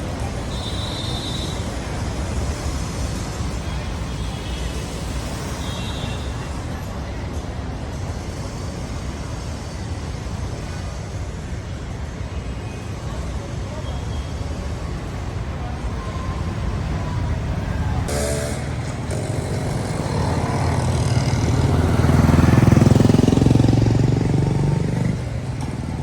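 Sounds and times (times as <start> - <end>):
rumble of passing vehicles: 0.0 - 26.0.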